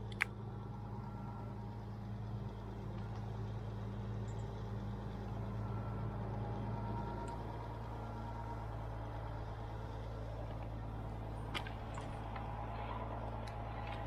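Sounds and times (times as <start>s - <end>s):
crane diesel engine running: 0.0s - 14.0s.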